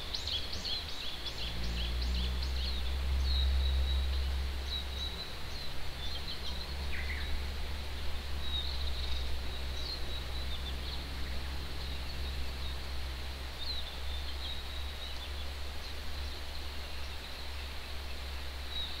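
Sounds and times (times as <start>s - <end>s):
distant mountain stream rushing: 0.0s - 19.0s.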